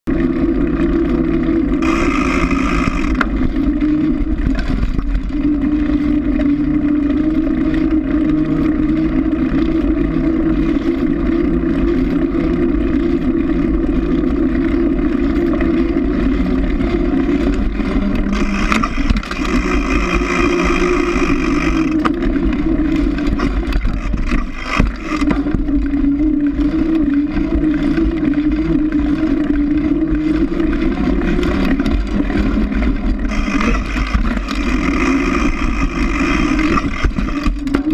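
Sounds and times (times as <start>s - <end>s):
bike tyre rolling on pavement: 0.1s - 37.9s.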